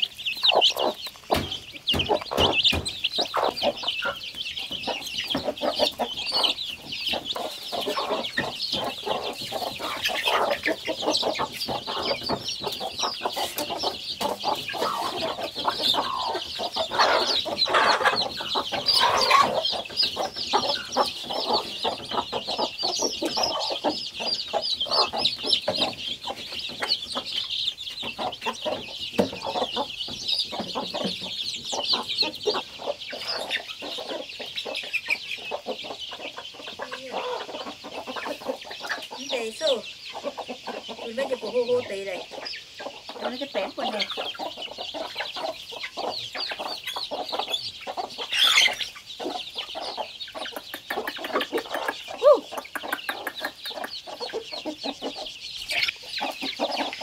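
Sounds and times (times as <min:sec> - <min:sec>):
chicks peeping: 0:00.0 - 0:57.0
hens clucking: 0:00.0 - 0:57.0.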